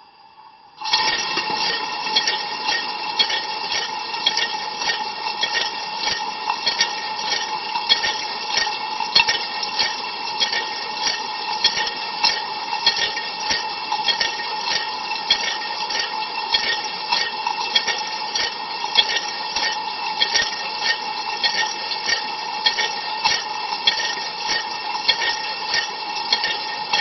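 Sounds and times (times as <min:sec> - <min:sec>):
water spraying inside dishwasher: 0:00.8 - 0:27.0.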